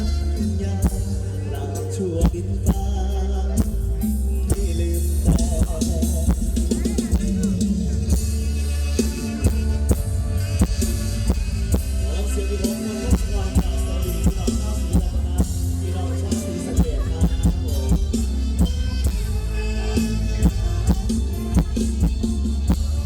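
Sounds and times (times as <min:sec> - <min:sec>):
band music with drum beat: 0:00.0 - 0:23.0.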